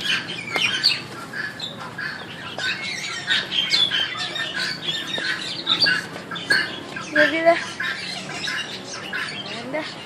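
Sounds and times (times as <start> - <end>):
birds squawking: 0.0 - 10.0.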